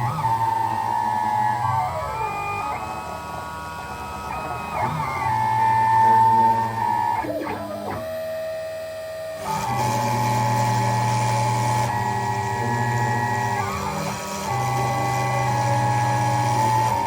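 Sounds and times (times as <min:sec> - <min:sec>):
cnc router stepper motors whining: 0:00.0 - 0:17.0.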